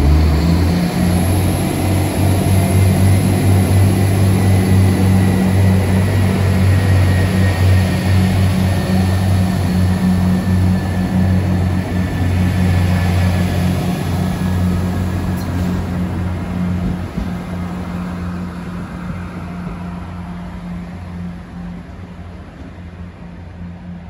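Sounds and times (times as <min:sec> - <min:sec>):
diesel train engine humming: 0:00.0 - 0:24.0.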